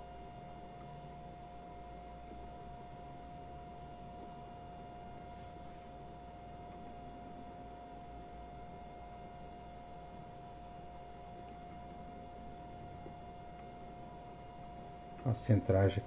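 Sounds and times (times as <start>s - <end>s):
lathe high-pitched whine: 0.0s - 16.0s
low hum: 0.0s - 16.0s.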